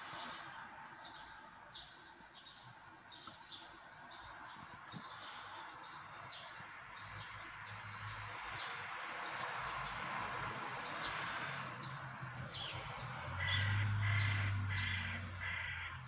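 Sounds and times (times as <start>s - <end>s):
faint street noise hiss: 0.0s - 16.0s
small birds chirping: 0.0s - 16.0s.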